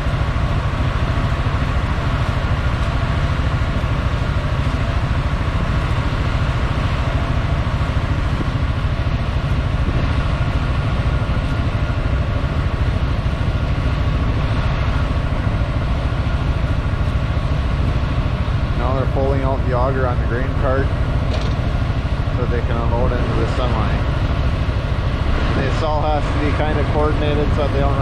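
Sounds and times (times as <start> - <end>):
faint steady whine: 0.0 - 28.0
farm machinery engine drone: 0.0 - 28.0.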